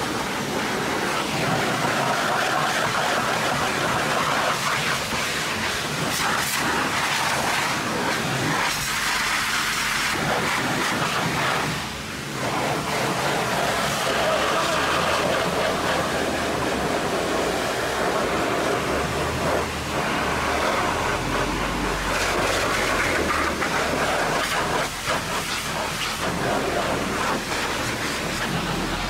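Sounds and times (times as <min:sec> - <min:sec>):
pressure washer spraying metal: 0:00.0 - 0:29.0.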